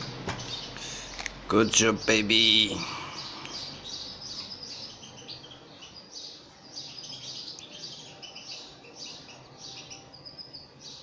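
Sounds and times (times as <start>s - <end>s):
nestlings cheeping: 0.4s - 11.0s.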